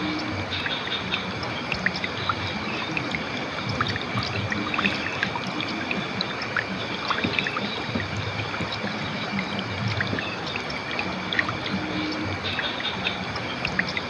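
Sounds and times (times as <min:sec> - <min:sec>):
river water flowing over rocks: 0:00.0 - 0:14.0
small splashes and gurgles: 0:00.0 - 0:14.0.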